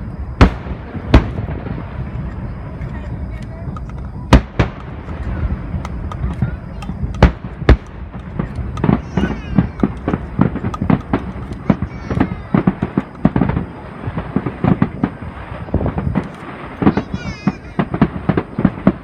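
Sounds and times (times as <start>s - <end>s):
fireworks bangs and crackling: 0.0s - 19.0s
loud fireworks booms: 0.0s - 19.0s.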